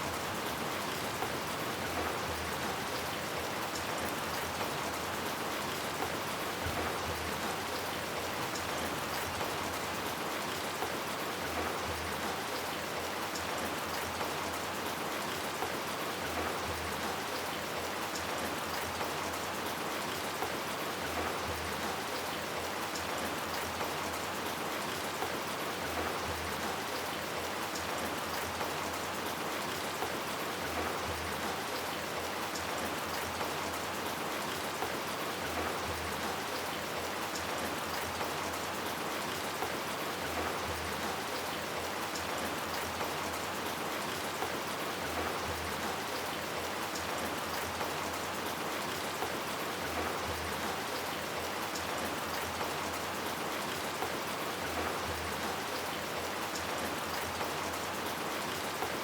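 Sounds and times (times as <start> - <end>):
rain falling: 0.0 - 59.0
raindrops ticking on hard surfaces: 0.1 - 59.0.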